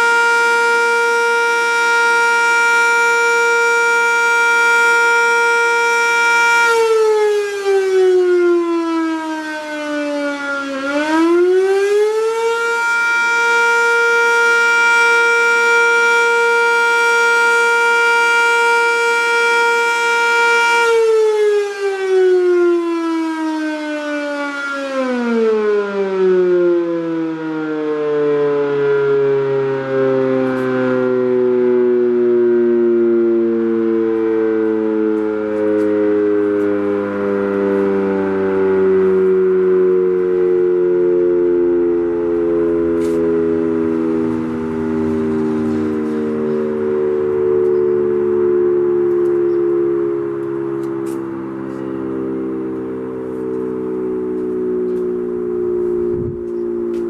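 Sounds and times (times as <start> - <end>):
warning siren winding down: 0.0 - 57.0.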